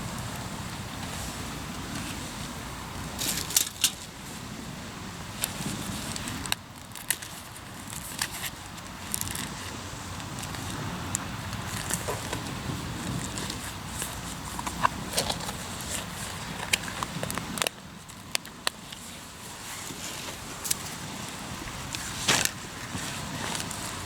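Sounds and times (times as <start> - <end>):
low rumble of surf: 0.0 - 6.8, 7.4 - 24.0.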